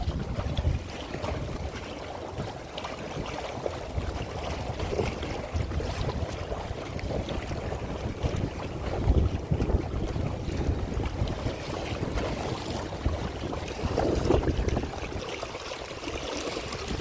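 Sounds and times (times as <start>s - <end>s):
waves slapping against boat: 0.0s - 17.0s
wind rumbling on microphone: 0.0s - 17.0s.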